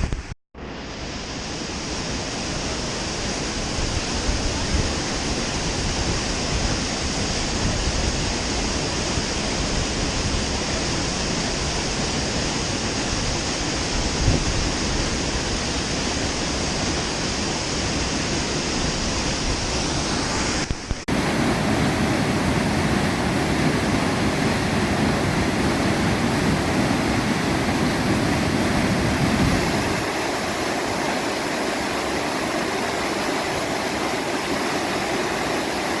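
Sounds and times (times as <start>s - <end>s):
waterfall rushing: 0.6s - 36.0s.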